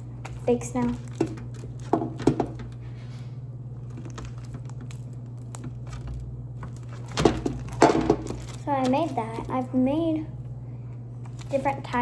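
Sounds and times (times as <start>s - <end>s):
slime squelching: 0.0s - 12.0s.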